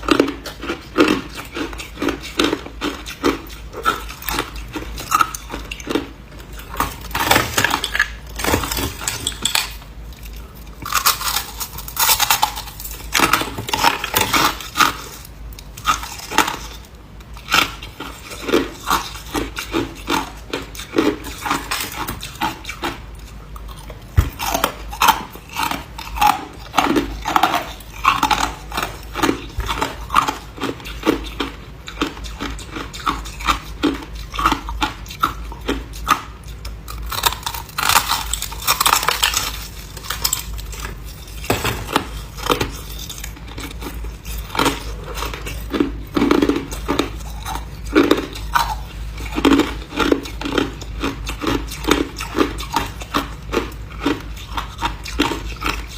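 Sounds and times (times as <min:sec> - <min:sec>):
person chewing ice: 0:00.0 - 0:55.9.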